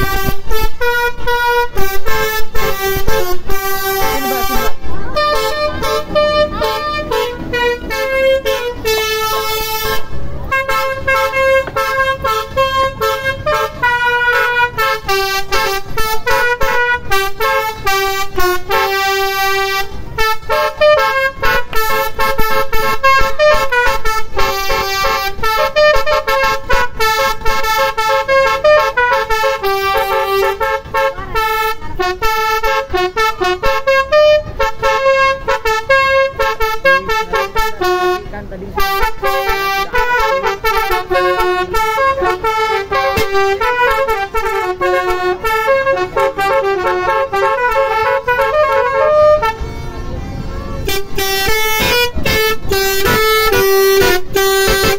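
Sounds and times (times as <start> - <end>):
multi-trumpet vehicle horn melody: 0.0 - 54.9.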